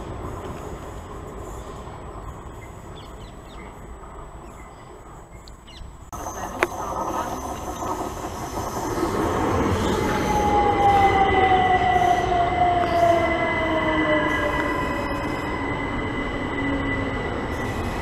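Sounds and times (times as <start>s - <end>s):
electric train approaching: 0.0s - 18.0s
train rumble: 0.0s - 18.0s.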